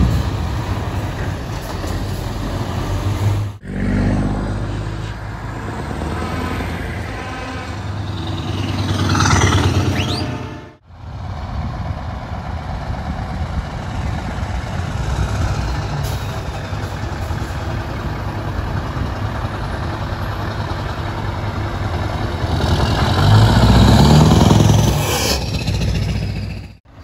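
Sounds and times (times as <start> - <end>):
diesel engines at low speed: 0.0 - 27.0
trucks rolling past: 0.0 - 27.0.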